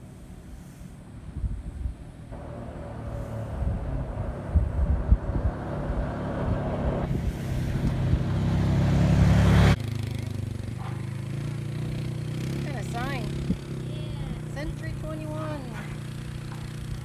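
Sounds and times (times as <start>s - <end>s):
low hum: 0.0s - 17.0s
motor vehicle rumble: 0.0s - 17.0s.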